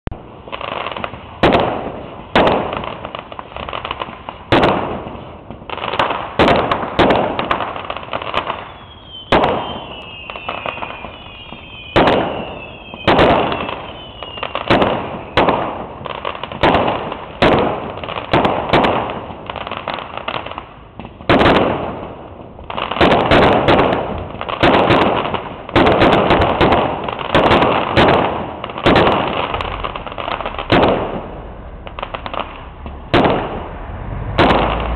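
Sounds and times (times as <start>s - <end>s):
fireworks bursting with echoes: 0.1s - 34.9s
whistling fireworks: 0.1s - 34.9s.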